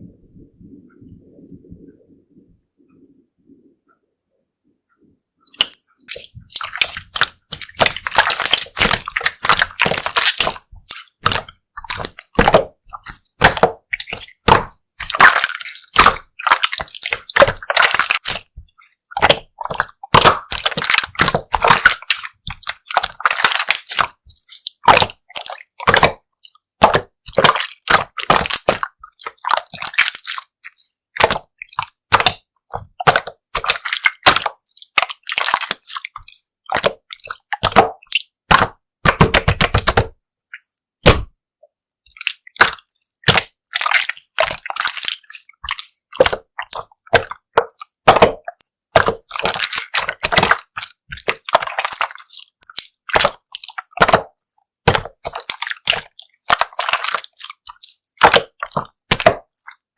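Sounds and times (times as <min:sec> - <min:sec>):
slime squished by hand: 0:05.4 - 0:41.4, 0:42.1 - 0:59.9.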